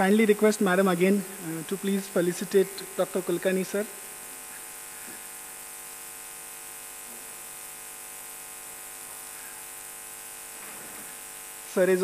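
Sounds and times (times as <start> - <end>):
high hiss: 0.0 - 12.0
mains hum: 0.0 - 12.0.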